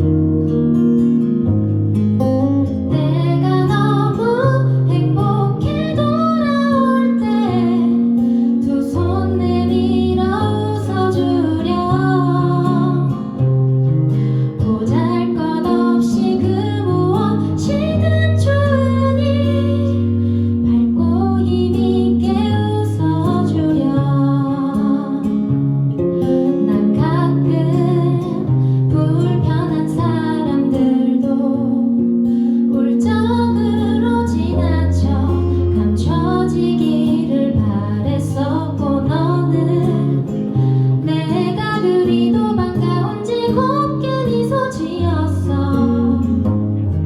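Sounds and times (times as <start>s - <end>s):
acoustic guitar: 0.0s - 47.0s.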